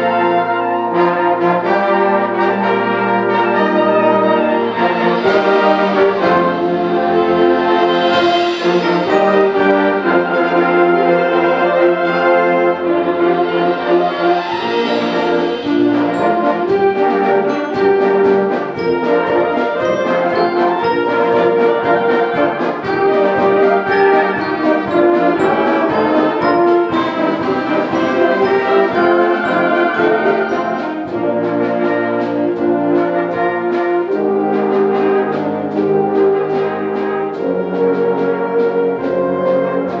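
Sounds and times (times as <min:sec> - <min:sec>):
concert band playing: 0:00.0 - 0:40.0
sustained brass chords: 0:00.0 - 0:40.0
percussion strikes: 0:00.1 - 0:40.0.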